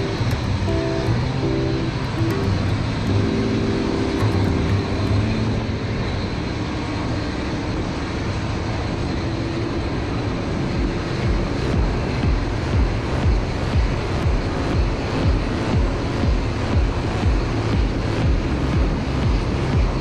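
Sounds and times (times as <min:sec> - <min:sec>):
jet turbines roaring: 0:00.0 - 0:20.0.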